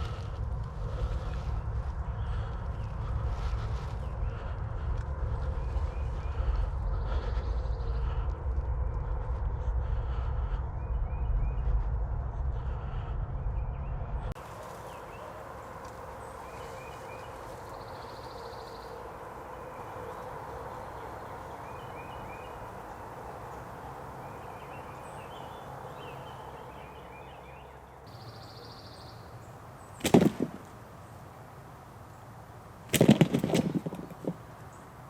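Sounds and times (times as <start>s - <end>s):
small birds chirping faintly: 0.0s - 35.0s
steady background hum: 0.0s - 35.0s.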